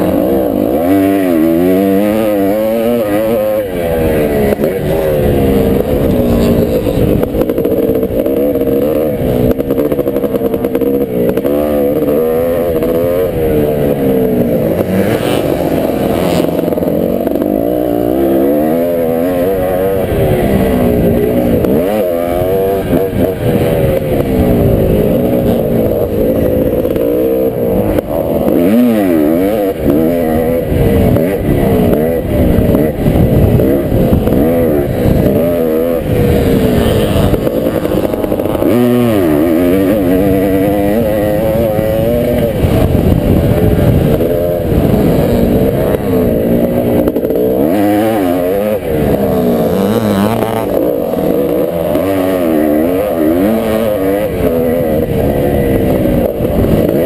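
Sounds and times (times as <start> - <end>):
muffled motorcycle engine revving: 0.0 - 57.0.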